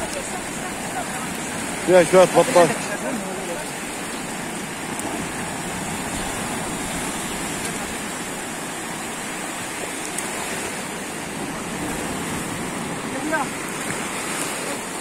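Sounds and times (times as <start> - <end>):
sea surf washing ashore: 0.0 - 15.0.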